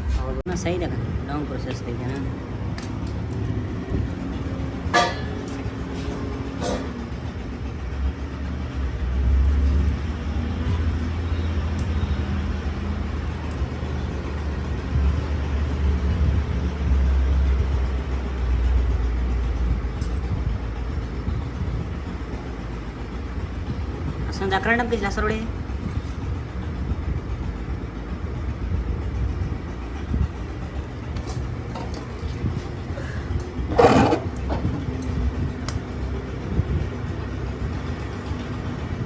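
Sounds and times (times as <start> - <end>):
low vehicle engine rumble: 0.0 - 39.0
road traffic: 0.0 - 39.0.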